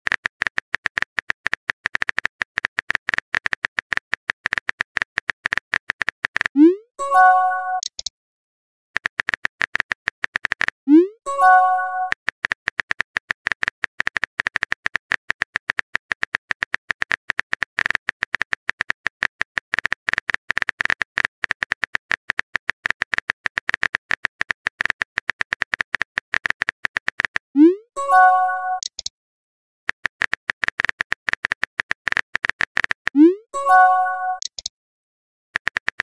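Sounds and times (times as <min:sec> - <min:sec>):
phone keyboard typing clicks: 0:00.0 - 0:06.6, 0:07.7 - 0:08.1, 0:09.0 - 0:27.5, 0:28.1 - 0:29.1, 0:29.9 - 0:34.7, 0:35.6 - 0:36.0.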